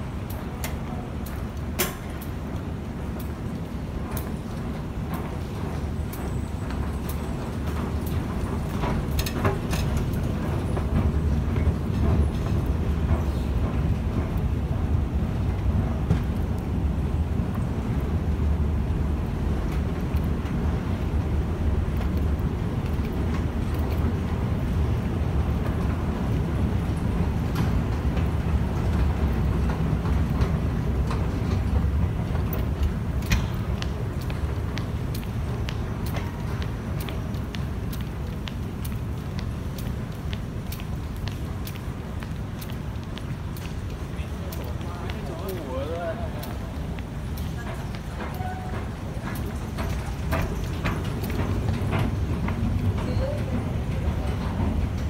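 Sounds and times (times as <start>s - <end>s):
escalator rumbling: 0.0s - 55.0s
footsteps clicking on escalator: 0.0s - 55.0s.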